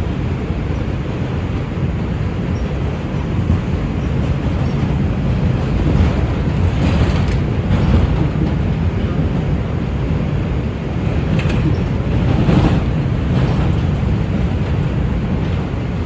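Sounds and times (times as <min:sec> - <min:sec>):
subway train rumbling on rails: 0:00.0 - 0:16.0.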